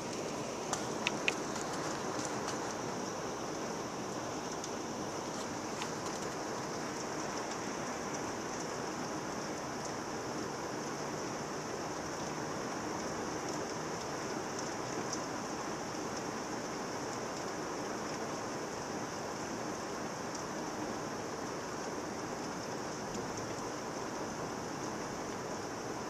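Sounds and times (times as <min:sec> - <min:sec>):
rain on leaves: 0:00.0 - 0:26.0.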